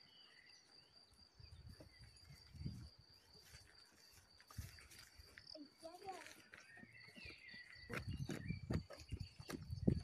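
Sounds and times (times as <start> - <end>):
faint bird chirps: 0.0 - 10.0
insect drone: 0.0 - 10.0.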